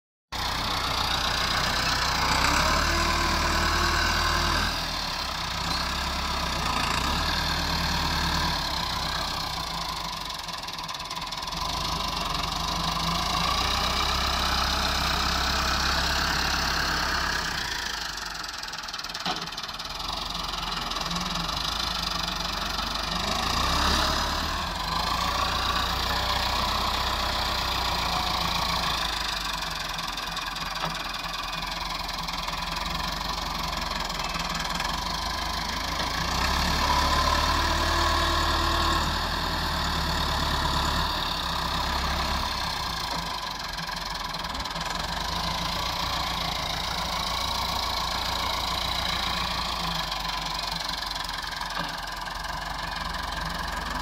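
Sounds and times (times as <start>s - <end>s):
tractor diesel engine under load: 0.3s - 54.0s.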